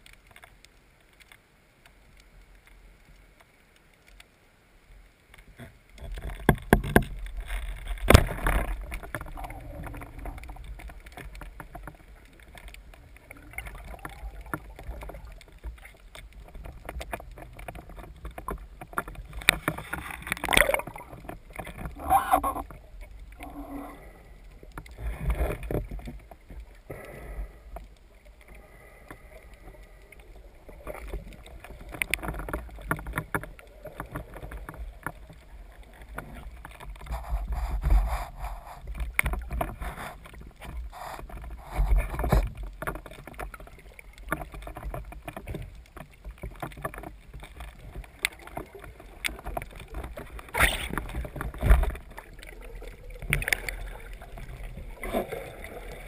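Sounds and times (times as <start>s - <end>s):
water sloshing: 5.4s - 26.9s, 27.7s - 56.0s.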